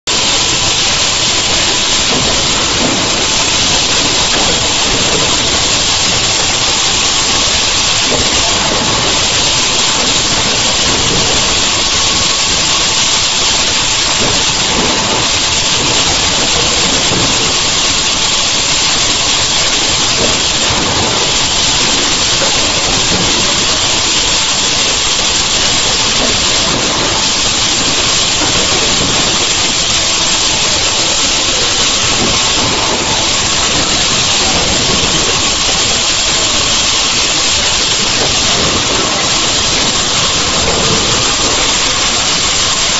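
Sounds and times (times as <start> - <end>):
machine hissing: 0.0 - 42.9.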